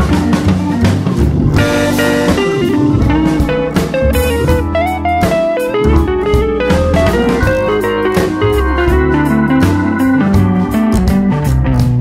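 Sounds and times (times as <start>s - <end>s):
bluesy plucked guitar melody: 0.0s - 12.0s
steady drum beat: 0.0s - 12.0s.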